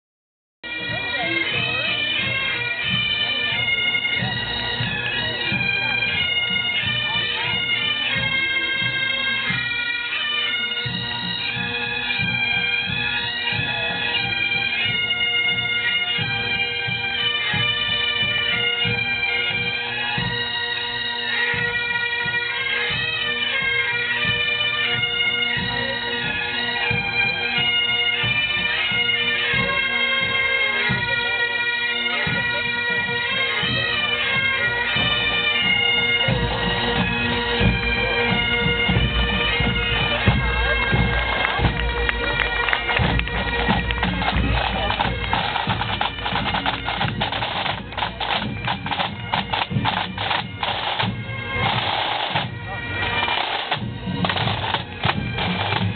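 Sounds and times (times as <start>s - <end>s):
bagpipes playing: 0.6s - 55.9s.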